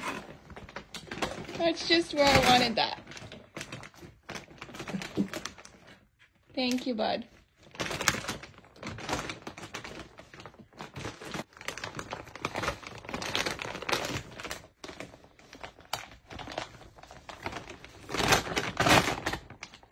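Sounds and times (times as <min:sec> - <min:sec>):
plastic bag crinkling: 0:00.0 - 0:19.9.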